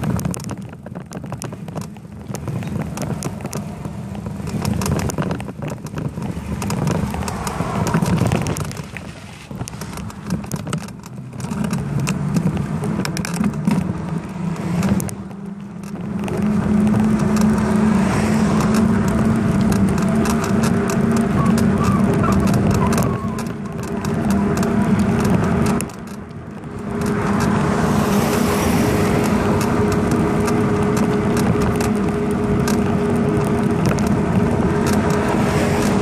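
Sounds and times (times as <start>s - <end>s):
bike rattling and clicking: 0.0s - 36.0s
wind on microphone: 0.0s - 36.0s.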